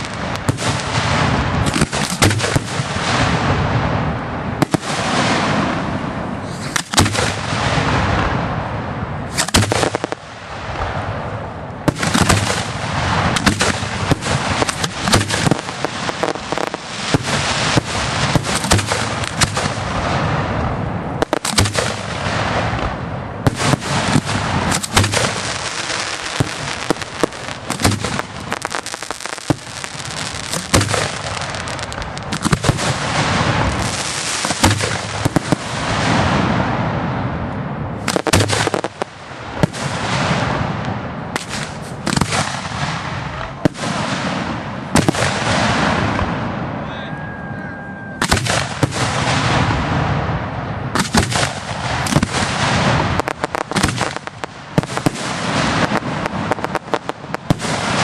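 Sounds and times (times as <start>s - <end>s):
fireworks bursting: 0.0s - 47.0s, 48.0s - 58.0s.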